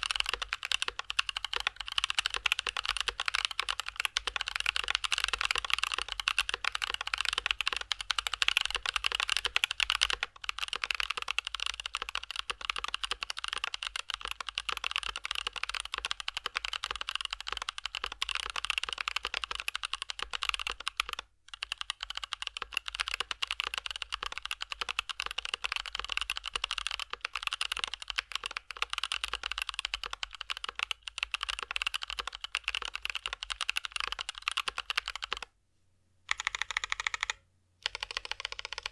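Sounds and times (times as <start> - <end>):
typing on mechanical keyboard: 0.0 - 35.5, 36.3 - 38.9.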